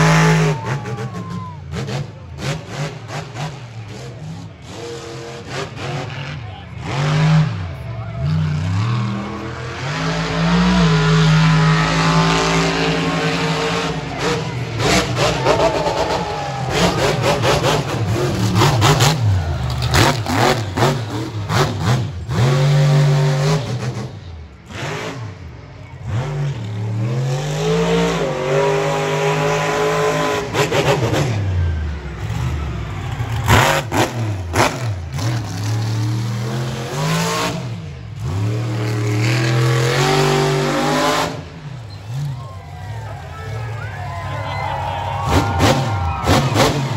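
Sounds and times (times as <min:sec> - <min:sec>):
truck engine revving: 0:00.0 - 0:46.9.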